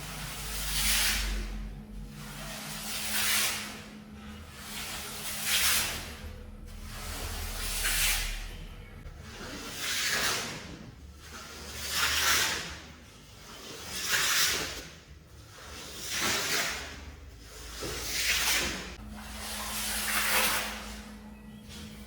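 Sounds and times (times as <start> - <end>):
scrubbing wet rug: 0.0 - 22.0.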